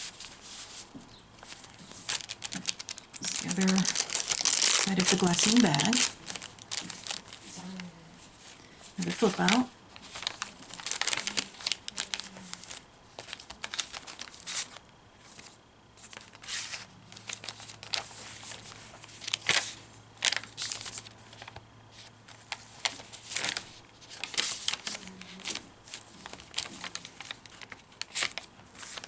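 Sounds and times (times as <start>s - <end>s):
paper pages rustling: 0.0s - 7.8s, 8.4s - 29.0s.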